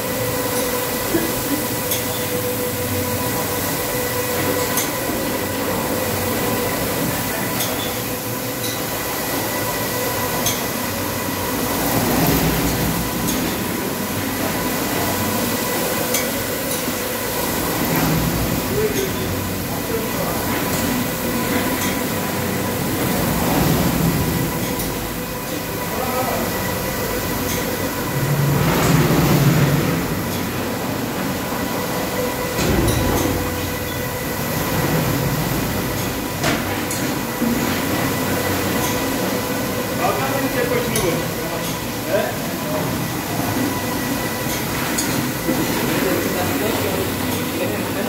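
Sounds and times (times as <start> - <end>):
carpet-washing machine humming: 0.0 - 48.0.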